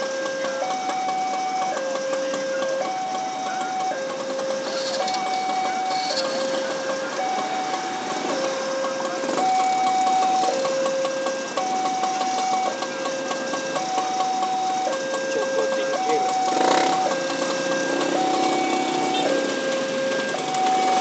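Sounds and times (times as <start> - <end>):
two-tone crossing alarm: 0.0 - 21.0.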